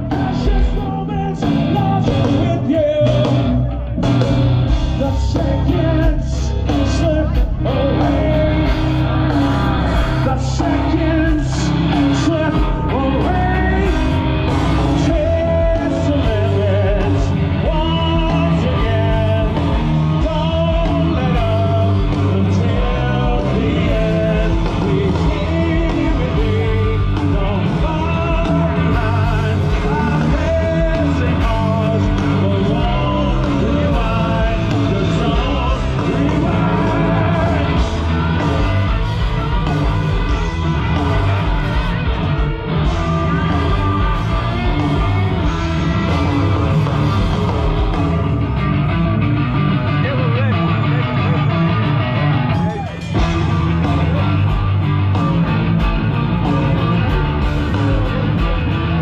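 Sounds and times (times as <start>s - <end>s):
person singing: 0.0s - 48.7s
live rock band: 0.0s - 59.0s.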